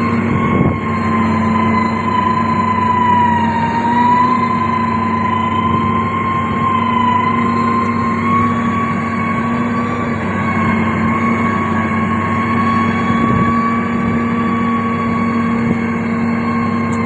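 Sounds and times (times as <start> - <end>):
heavy machine engine running: 0.0 - 17.0
high-pitched whine: 0.0 - 17.0.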